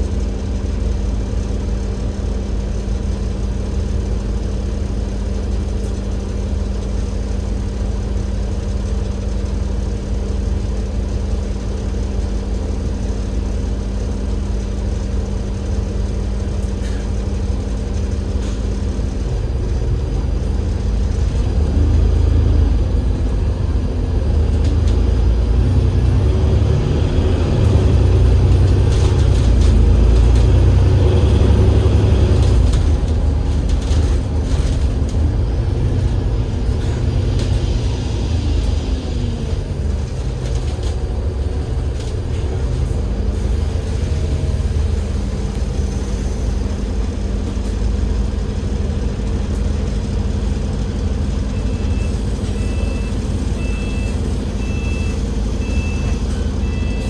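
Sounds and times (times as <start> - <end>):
diesel bus engine: 0.0 - 57.0.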